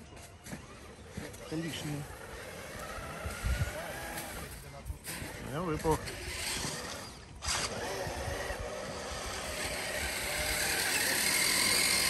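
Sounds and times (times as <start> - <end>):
tyres on snow: 0.0 - 12.0
toy truck motor whine: 0.4 - 12.0.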